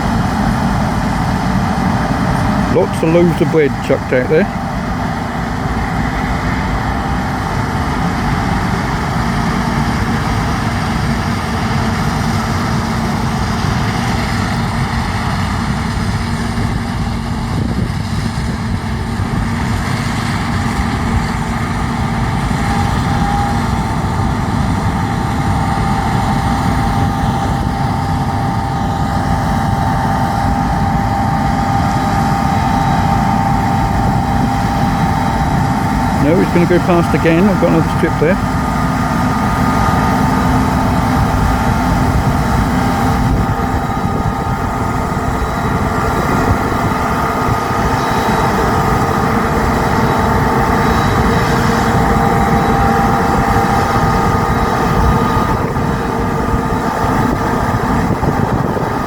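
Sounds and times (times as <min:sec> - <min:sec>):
heavy farm machinery engine running: 0:00.0 - 0:59.0
steady whine: 0:00.0 - 0:59.0.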